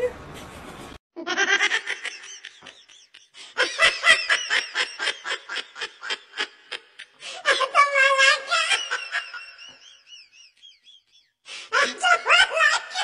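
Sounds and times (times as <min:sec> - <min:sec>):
laughter in quick bursts: 0:01.2 - 0:13.0.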